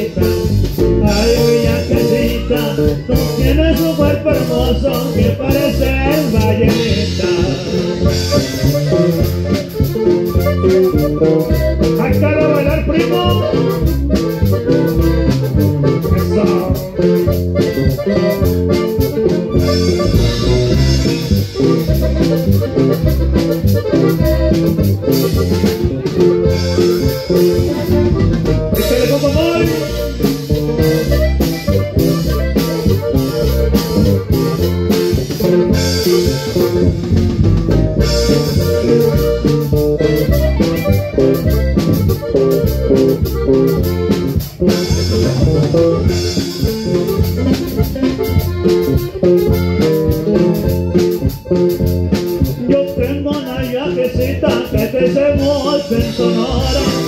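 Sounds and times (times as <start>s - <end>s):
bass: 0.0s - 57.0s
button accordion: 0.0s - 57.0s
drum kit beat: 0.0s - 57.0s
strummed guitars: 0.0s - 57.0s.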